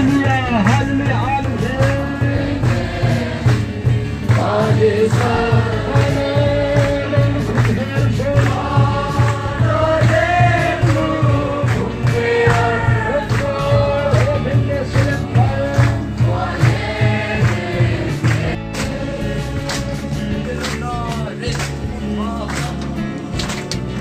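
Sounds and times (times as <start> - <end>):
group singing a worship song: 0.0 - 24.0
steady drum beat: 0.0 - 24.0.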